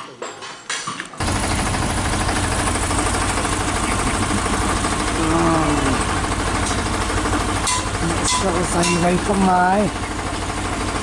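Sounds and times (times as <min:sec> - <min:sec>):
engine idling with chugging: 0:01.2 - 0:11.0.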